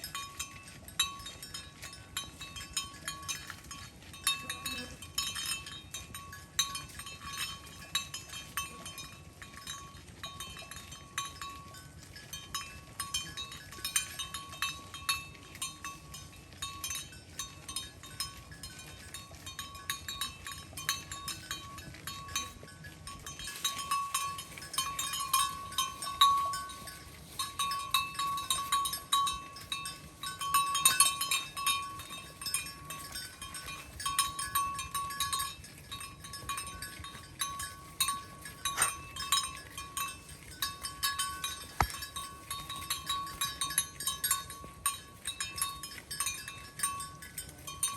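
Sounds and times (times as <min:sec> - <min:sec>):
cattle bells clanking: 0:00.0 - 0:47.9.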